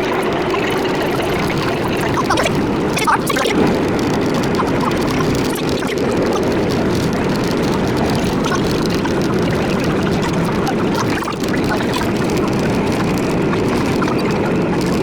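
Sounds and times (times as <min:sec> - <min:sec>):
faint clicks: 0:00.0 - 0:15.0.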